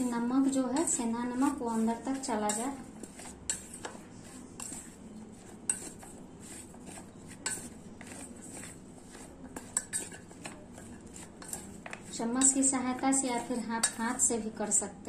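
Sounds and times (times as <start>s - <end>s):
slices tossed in a metal bowl: 0.0s - 15.0s.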